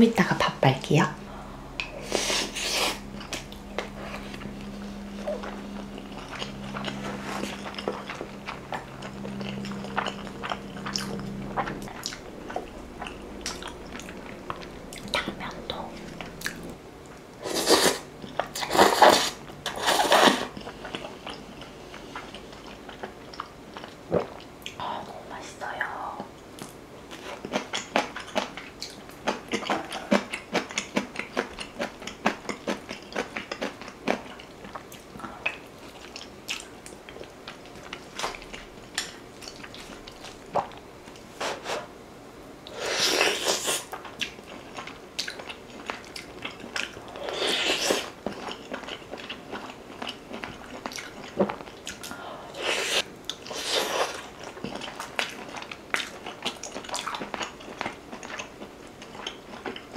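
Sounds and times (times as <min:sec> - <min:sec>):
person chewing with wet smacks: 0:01.8 - 0:17.2, 0:18.1 - 0:24.8, 0:26.2 - 0:41.3, 0:43.4 - 0:52.2, 0:52.8 - 0:59.9.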